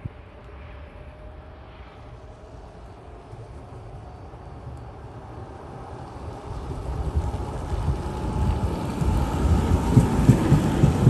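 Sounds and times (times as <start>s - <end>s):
passenger train rumble: 0.0s - 11.0s.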